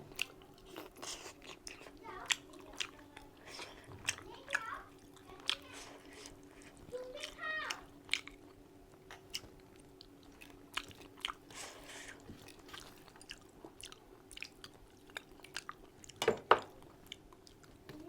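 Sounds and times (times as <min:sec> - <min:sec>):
wet chewing smacks: 0:00.1 - 0:16.2.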